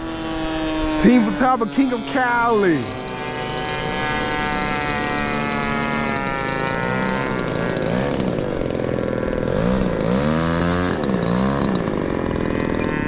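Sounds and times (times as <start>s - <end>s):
model airplane engine droning: 0.0s - 13.0s
model airplane engine revving: 0.0s - 13.0s.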